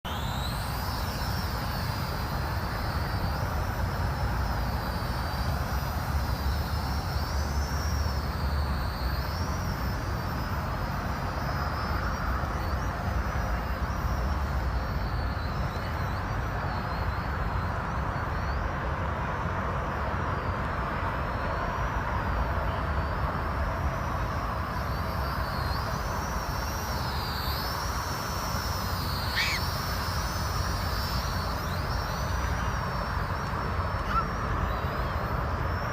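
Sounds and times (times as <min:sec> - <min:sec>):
drone rotors whining: 0:00.1 - 0:18.6, 0:21.3 - 0:35.9.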